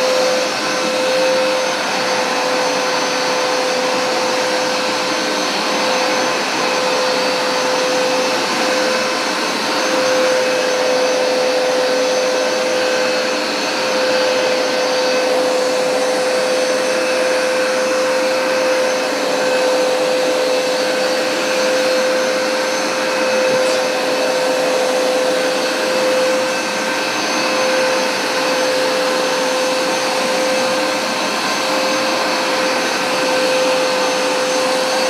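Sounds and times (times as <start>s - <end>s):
carpet cleaner motor whine: 0.0s - 35.0s.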